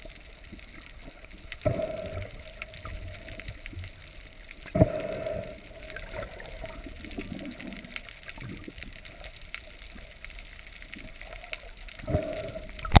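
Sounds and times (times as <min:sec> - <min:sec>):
bubbling water: 0:00.0 - 0:13.0
water sloshing and gurgling: 0:00.0 - 0:13.0.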